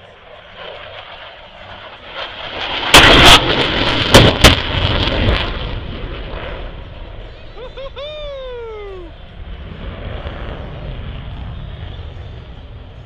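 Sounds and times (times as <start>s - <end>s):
jet roaring past: 0.0s - 13.0s.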